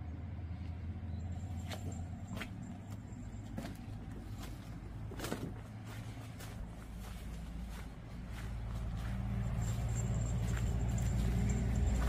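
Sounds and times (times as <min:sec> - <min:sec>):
footsteps on gravel path: 0:01.5 - 0:12.0.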